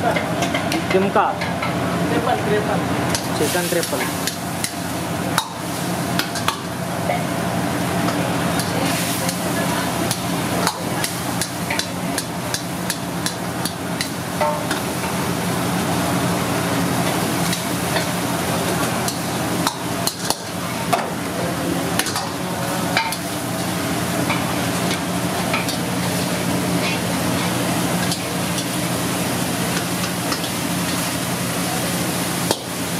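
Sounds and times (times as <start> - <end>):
gravy frying: 0.0 - 32.9.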